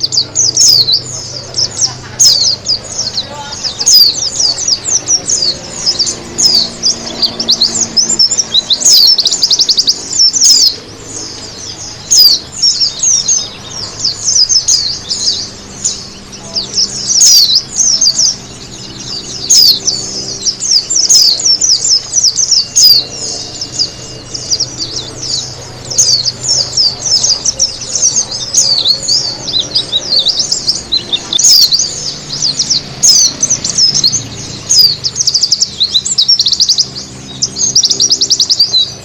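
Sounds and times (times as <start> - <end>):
bird high twittering: 0.0 - 39.0.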